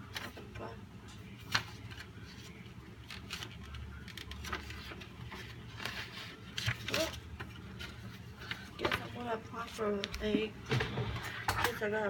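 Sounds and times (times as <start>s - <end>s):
paper rustling and crinkling: 1.3s - 11.6s.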